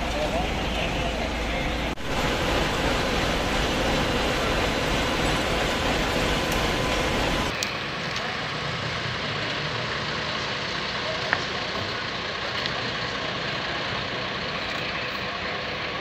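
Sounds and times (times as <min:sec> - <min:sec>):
crowd noise: 0:00.0 - 0:16.0
vehicle engines: 0:00.0 - 0:16.0.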